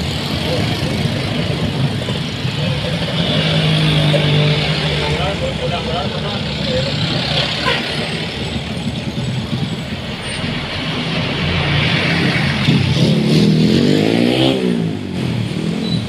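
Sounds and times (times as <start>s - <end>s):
diesel engines passing close: 0.0s - 16.0s
traffic rumble: 0.0s - 16.0s.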